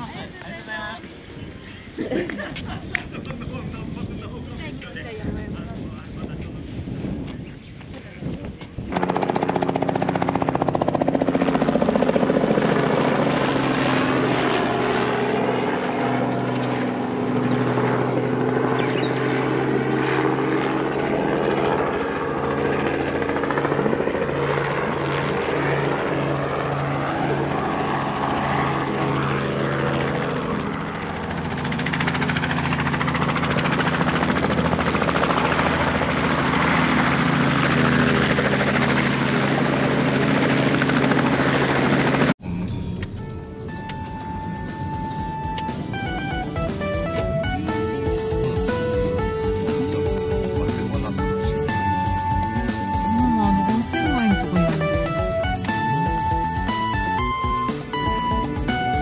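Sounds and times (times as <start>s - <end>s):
helicopter rotor throbbing: 0.0s - 59.0s.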